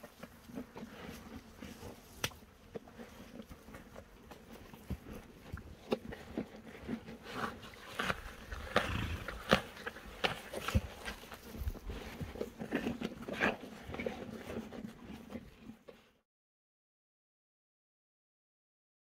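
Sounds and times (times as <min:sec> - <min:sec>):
horse hooves on dry ground: 0:00.0 - 0:16.1.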